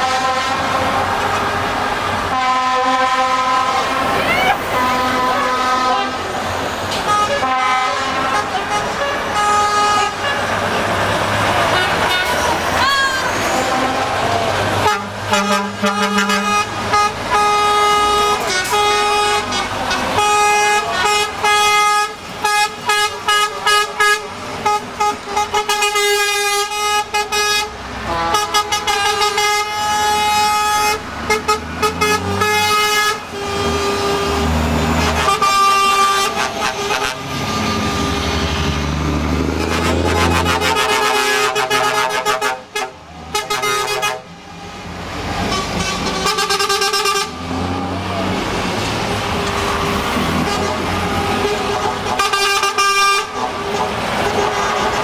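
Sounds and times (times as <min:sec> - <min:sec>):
diesel truck engines rumbling: 0:00.0 - 0:55.0
truck horns: 0:00.0 - 0:55.0.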